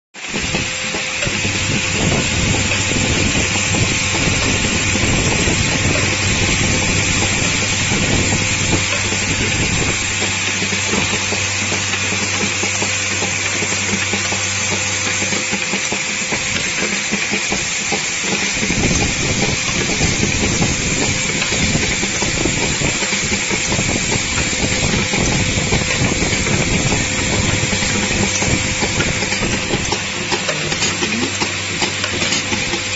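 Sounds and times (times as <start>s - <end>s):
machine hissing: 0.2s - 32.9s
rapid clicking and rattling of parts: 0.2s - 32.9s.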